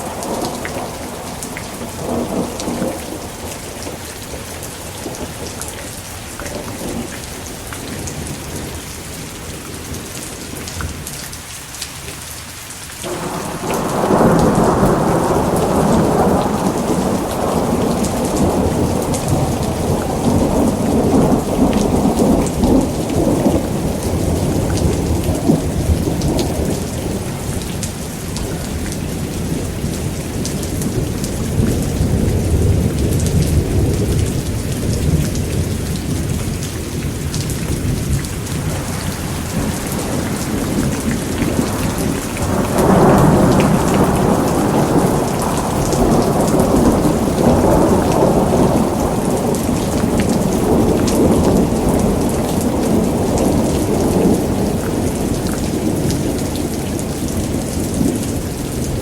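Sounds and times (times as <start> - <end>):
rolling thunder: 0.0 - 9.6, 13.0 - 59.0
heavy rain: 0.0 - 59.0.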